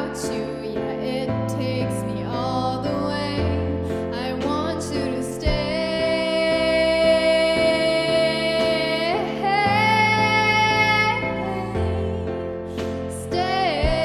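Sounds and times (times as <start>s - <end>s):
instrumental accompaniment: 0.0s - 14.0s.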